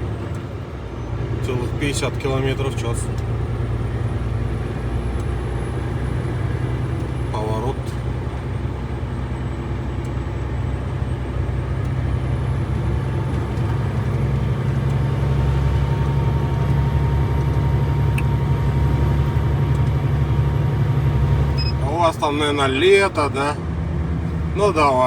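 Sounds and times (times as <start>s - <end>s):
truck diesel engine droning: 0.0s - 25.0s.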